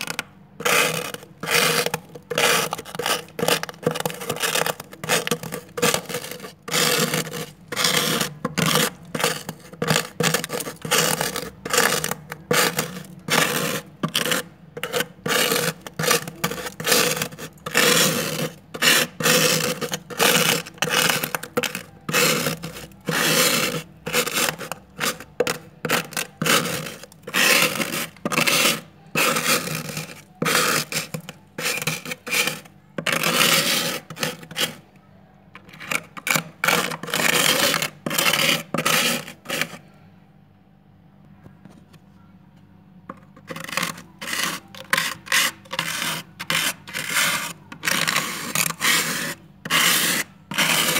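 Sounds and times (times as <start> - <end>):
plastic card scraping frost: 0.0 - 34.9, 35.6 - 39.9, 43.1 - 50.9.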